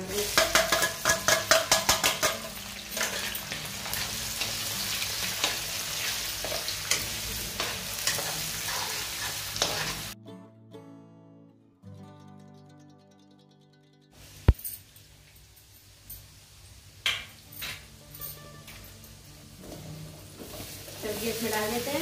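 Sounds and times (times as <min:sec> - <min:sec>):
chillies sizzling in hot oil: 0:00.0 - 0:10.2, 0:14.2 - 0:22.0
soft background music: 0:00.0 - 0:13.4, 0:17.1 - 0:22.0.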